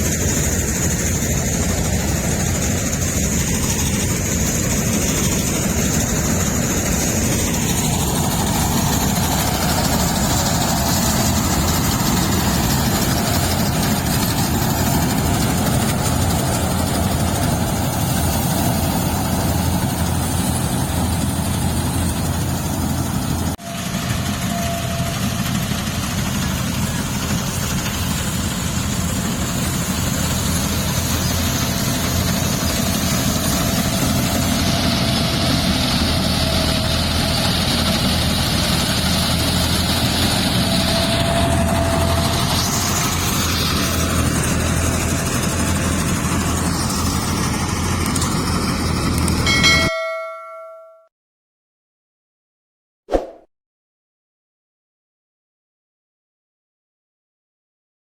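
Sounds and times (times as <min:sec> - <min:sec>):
farm machine engine running: 0:00.0 - 0:50.8.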